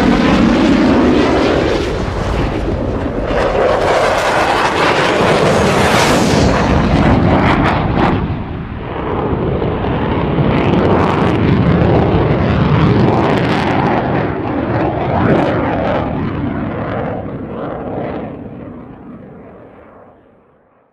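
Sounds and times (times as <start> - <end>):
plane rolling on asphalt: 0.0 - 20.0.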